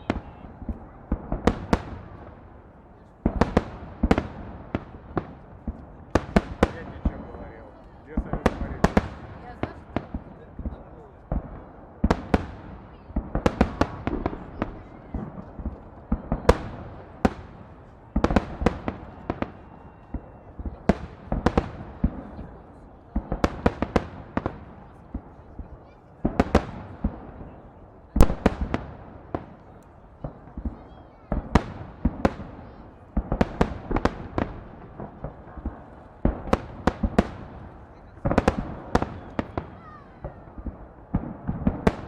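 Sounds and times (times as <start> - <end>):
fireworks bursting with sharp bangs: 0.0 - 42.0.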